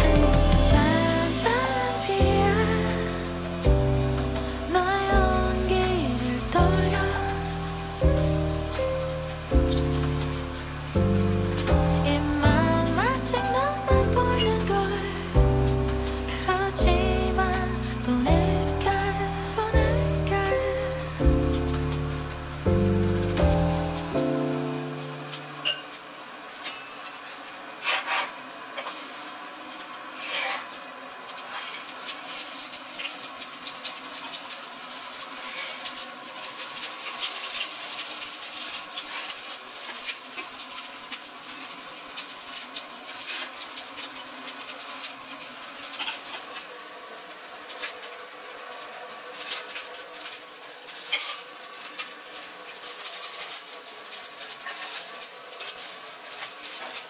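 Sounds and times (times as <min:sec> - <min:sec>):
pancakes sizzling in hot oil: 0:00.0 - 0:57.0.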